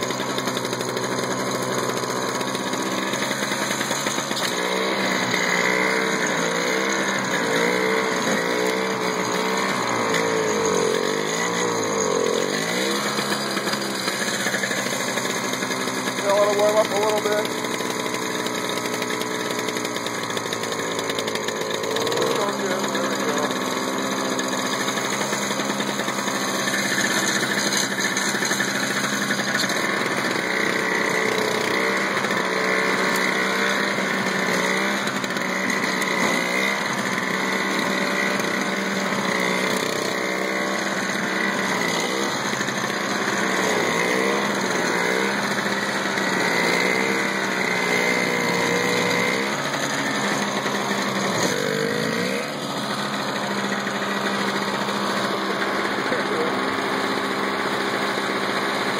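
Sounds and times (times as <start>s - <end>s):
snowblower engine running: 0.0s - 58.9s.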